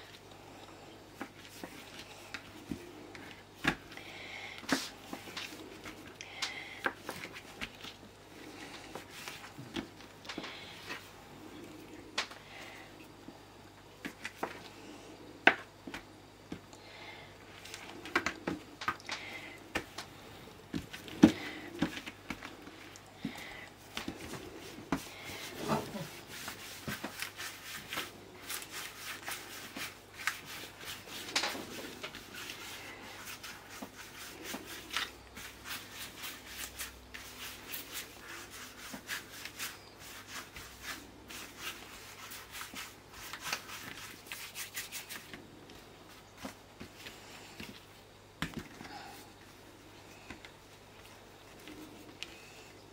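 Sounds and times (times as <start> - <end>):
hands rolling dough: 0.0 - 52.9.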